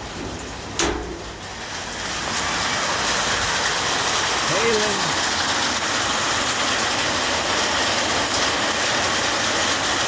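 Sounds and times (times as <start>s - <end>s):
hail and heavy rain: 0.0s - 10.0s.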